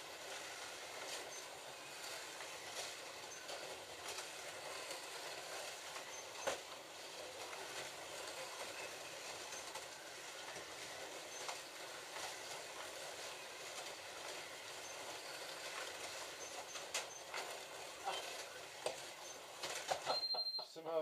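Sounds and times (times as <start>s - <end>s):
slot cars whirring on track: 0.0s - 20.4s.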